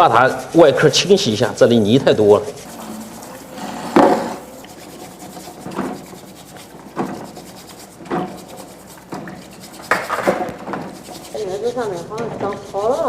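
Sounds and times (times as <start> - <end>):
oyster shells being scrubbed: 0.0 - 13.0.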